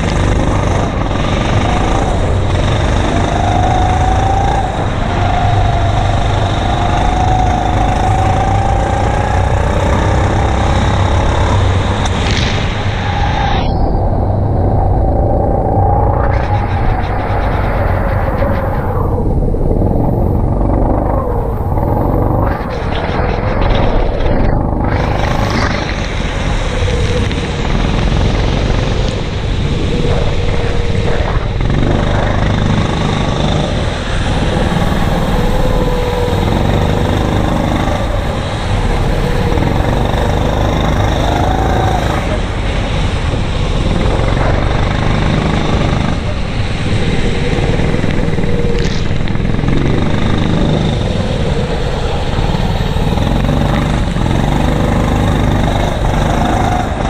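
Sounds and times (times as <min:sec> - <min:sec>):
kart engine revving: 0:00.0 - 0:12.9, 0:16.2 - 0:57.0.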